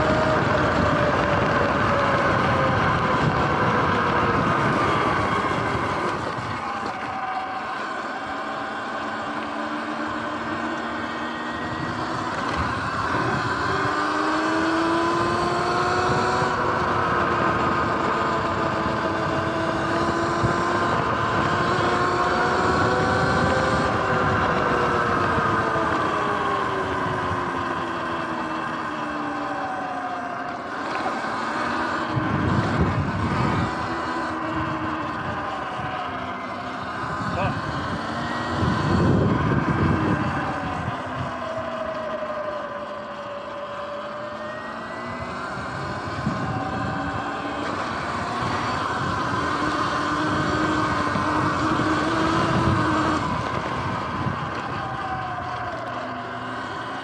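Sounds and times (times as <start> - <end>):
electric motor whining: 0.0 - 57.0
road rumble: 0.0 - 57.0
wind: 0.0 - 57.0.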